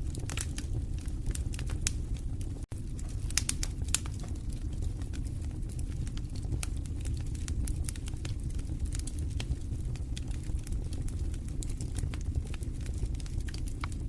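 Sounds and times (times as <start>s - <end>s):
fireplace crackling and popping: 0.0s - 14.0s
low rumble of flames: 0.0s - 14.0s.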